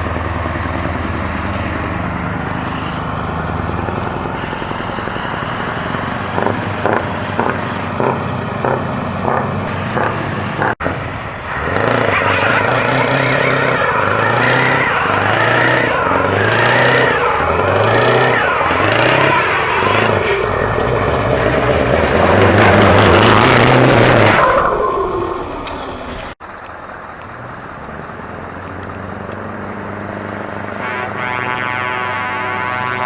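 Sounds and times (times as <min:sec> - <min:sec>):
engine running at low revs: 0:00.0 - 0:33.0
truck engine revving: 0:00.0 - 0:33.0.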